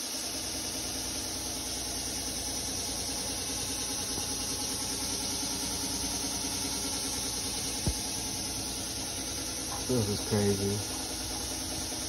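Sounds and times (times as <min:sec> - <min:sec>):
motor humming: 0:01.0 - 0:12.0.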